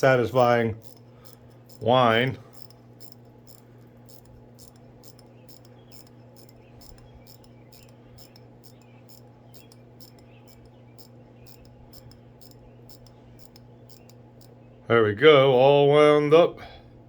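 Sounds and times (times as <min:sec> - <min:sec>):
watch ratchet clicking: 0:00.0 - 0:14.6.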